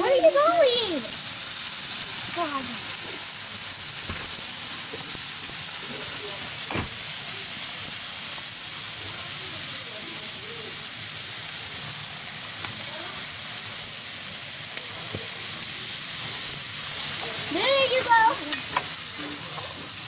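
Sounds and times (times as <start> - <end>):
prawns sizzling on a grill: 0.0 - 20.0.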